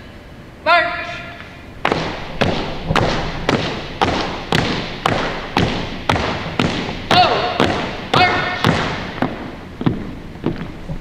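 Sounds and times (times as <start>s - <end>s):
marching footsteps on wooden floor: 1.8s - 11.0s.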